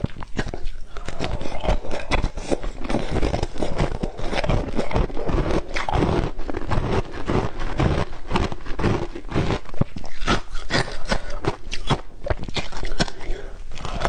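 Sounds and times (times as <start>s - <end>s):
ice crunching in mouth: 0.0s - 14.0s.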